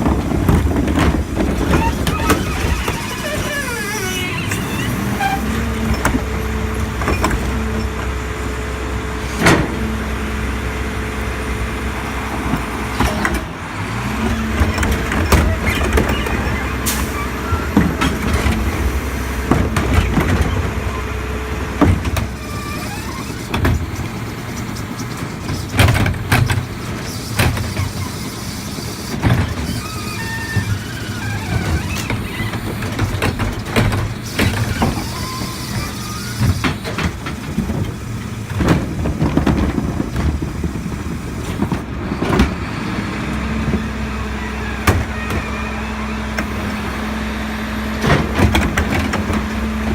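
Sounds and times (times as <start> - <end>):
garbage truck diesel engine: 0.0 - 49.9.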